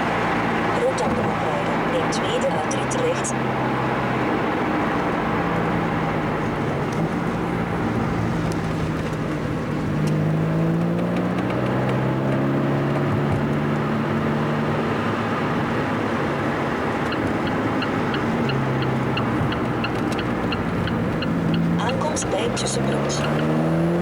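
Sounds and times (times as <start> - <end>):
car engine running: 0.0 - 24.0
tyre and road noise: 0.0 - 24.0.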